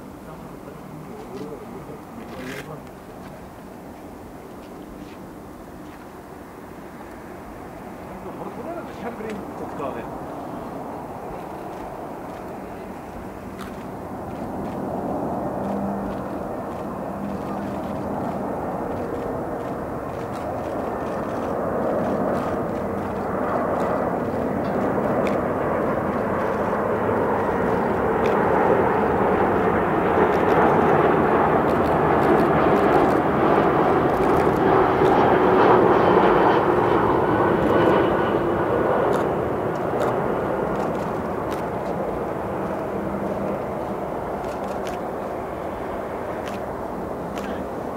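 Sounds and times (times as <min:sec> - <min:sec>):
high jet whine: 0:00.0 - 0:47.9
jet airliner rushing noise: 0:00.0 - 0:47.9.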